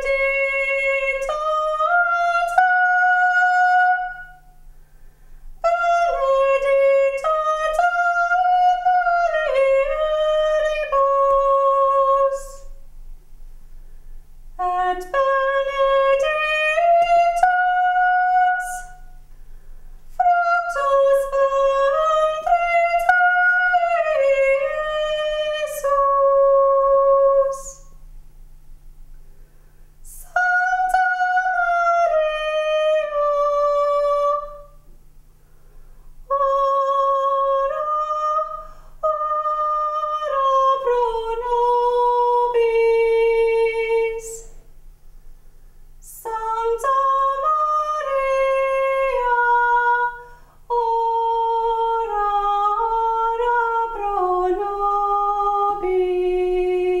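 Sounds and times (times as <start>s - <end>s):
woman singing slow melody: 0.0s - 4.7s, 5.6s - 12.8s, 14.6s - 19.3s, 20.1s - 28.0s, 30.0s - 34.9s, 36.2s - 44.7s, 46.0s - 57.0s
faint low hum: 0.0s - 57.0s.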